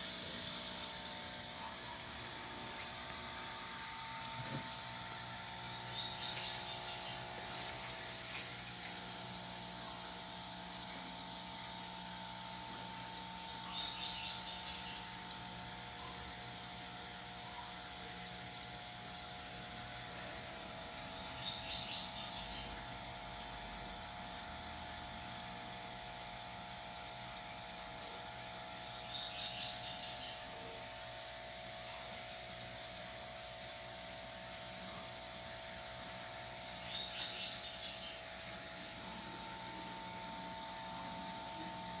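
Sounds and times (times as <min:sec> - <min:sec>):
aquarium pump hum: 0:00.0 - 0:42.0.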